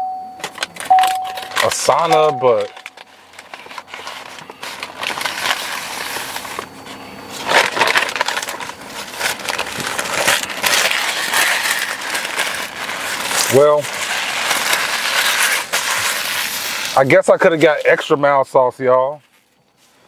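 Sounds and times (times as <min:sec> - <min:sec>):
paper bag rustling: 0:00.4 - 0:18.3.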